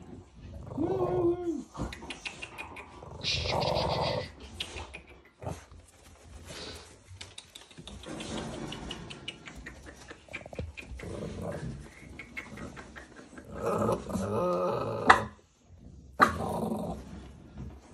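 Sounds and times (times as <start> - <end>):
puppies growling: 0.0 - 17.8.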